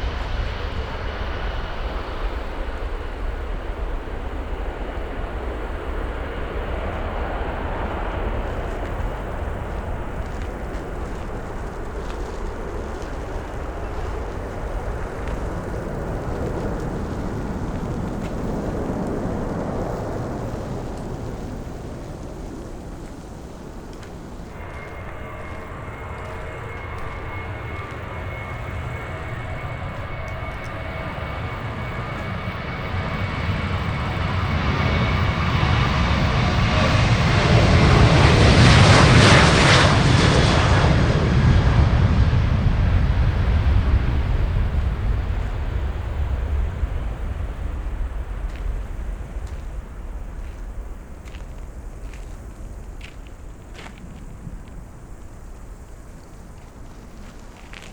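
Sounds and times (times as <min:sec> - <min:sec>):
jet airliner flying past: 0:00.0 - 0:57.9.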